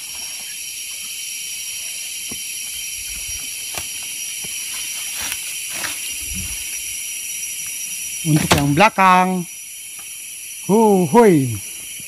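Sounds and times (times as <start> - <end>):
forest insects droning: 0.0 - 12.0.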